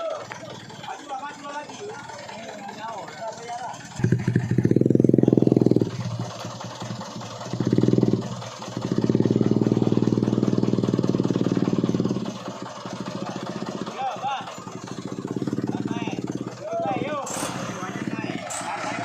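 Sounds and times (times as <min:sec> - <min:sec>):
truck engine revving: 0:01.8 - 0:19.0.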